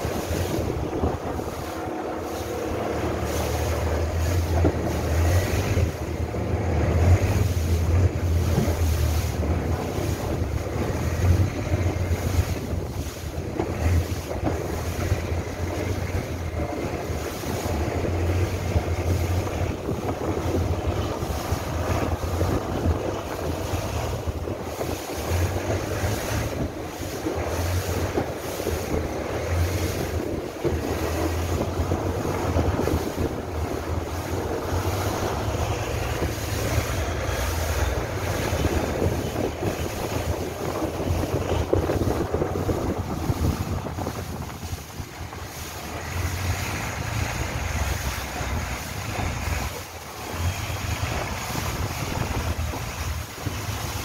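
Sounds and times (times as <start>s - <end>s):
boat engine droning: 0.0s - 54.0s
water rushing along hull: 0.0s - 54.0s
wind buffeting microphone: 0.0s - 54.0s.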